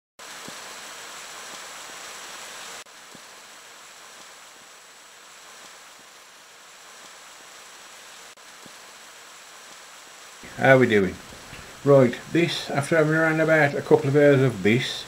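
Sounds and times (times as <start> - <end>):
heavy rain falling: 0.2 - 15.0.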